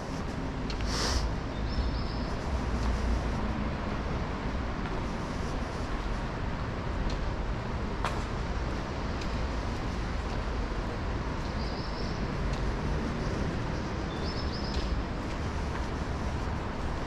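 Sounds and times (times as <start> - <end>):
low rumble of traffic and trains: 0.0 - 17.0.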